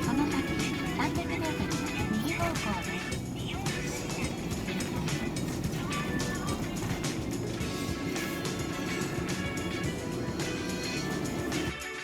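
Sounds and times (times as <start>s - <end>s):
car driving rumble: 0.0s - 11.7s
background music with beat: 0.0s - 12.0s.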